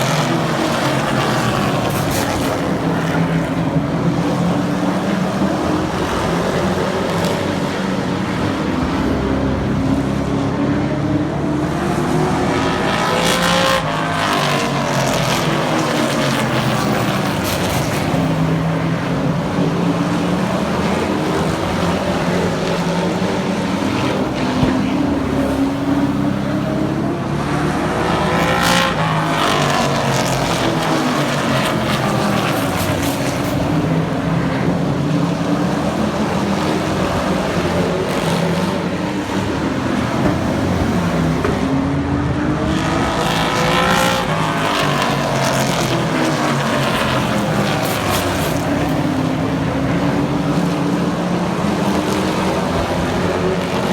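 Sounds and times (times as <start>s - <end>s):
racing truck engines passing: 0.0s - 53.9s.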